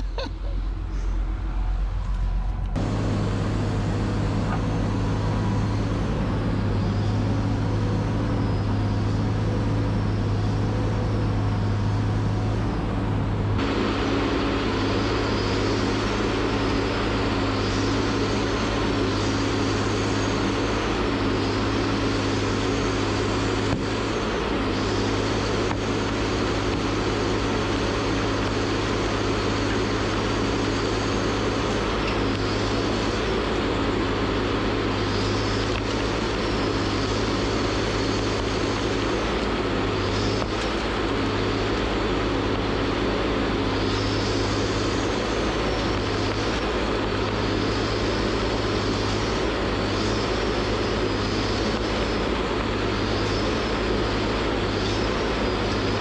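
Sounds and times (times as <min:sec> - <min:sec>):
diesel engine running: 0:00.0 - 0:56.0
hydraulics: 0:00.0 - 0:56.0.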